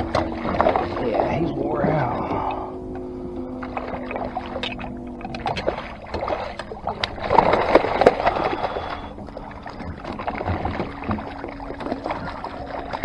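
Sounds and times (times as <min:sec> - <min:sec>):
ray splashing water: 0:00.0 - 0:03.0, 0:03.6 - 0:13.0.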